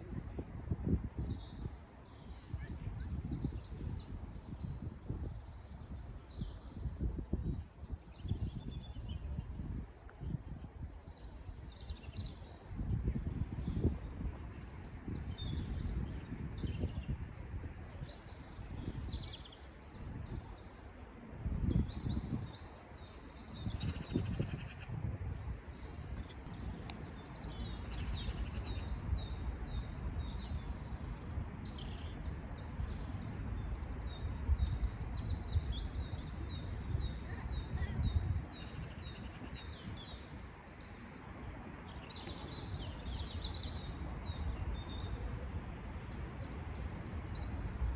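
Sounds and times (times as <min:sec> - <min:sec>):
songbirds chirping and trilling: 0:00.0 - 0:47.9.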